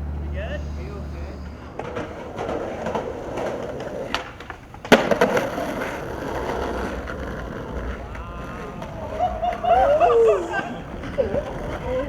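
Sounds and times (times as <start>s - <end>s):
skateboard wheels rolling on pavement: 0.0s - 12.0s
skateboard click: 1.4s - 12.0s
skateboard landing slap: 1.7s - 12.0s.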